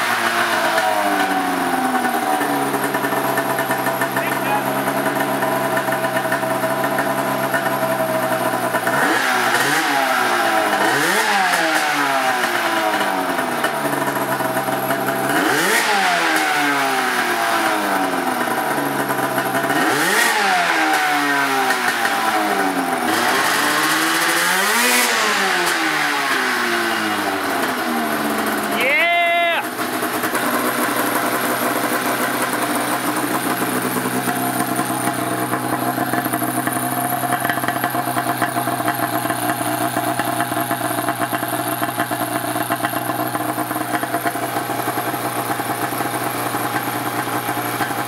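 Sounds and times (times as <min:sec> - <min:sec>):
two-stroke engine idling and revving: 0:00.0 - 0:48.0.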